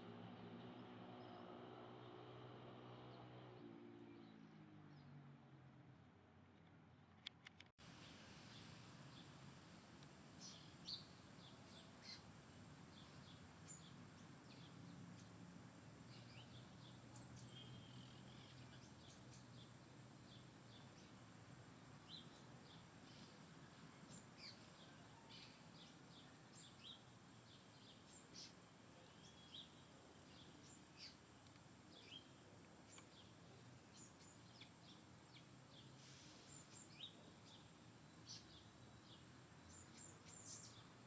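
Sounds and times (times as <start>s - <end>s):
small birds chirping: 7.9s - 41.0s.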